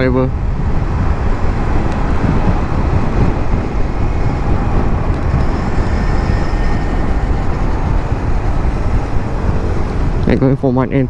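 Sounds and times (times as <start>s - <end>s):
wind and road noise rushing: 0.0s - 11.0s.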